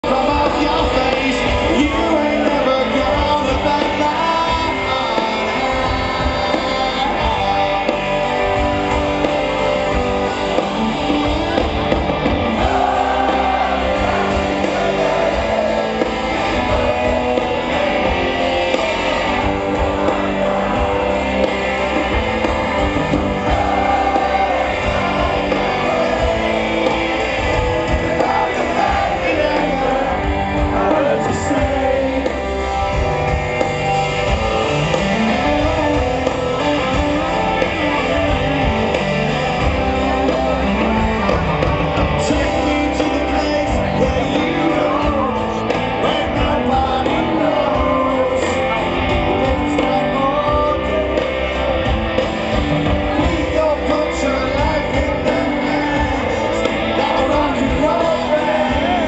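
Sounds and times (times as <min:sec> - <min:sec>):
live rock band with singing: 0:00.0 - 0:59.0.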